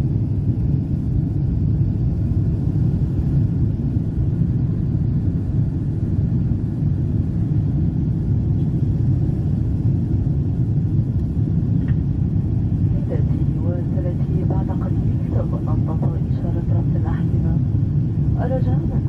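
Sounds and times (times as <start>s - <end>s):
jet airliner cabin rumble: 0.0s - 19.0s.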